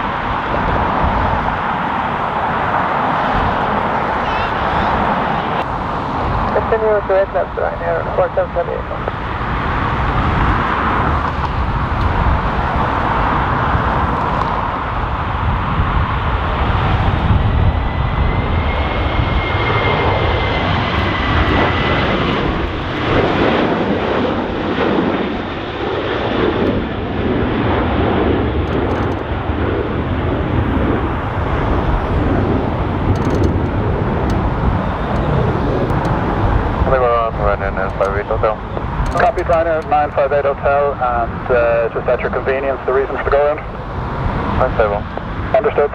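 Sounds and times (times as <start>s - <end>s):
jet engines at high thrust: 0.0s - 45.9s.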